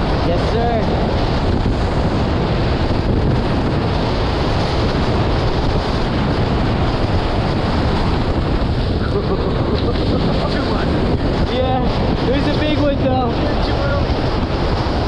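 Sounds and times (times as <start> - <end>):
water rushing along hulls: 0.0 - 15.0
wind buffeting microphone: 0.0 - 15.0.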